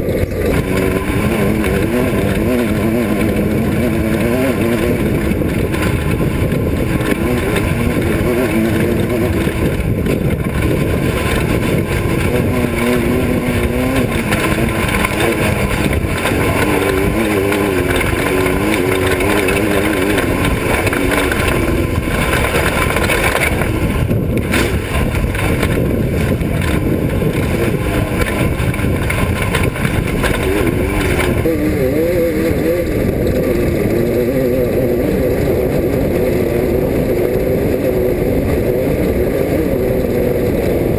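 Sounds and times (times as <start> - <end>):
constant rumbling noise: 0.0 - 40.9
race car engine running hard: 0.0 - 40.9.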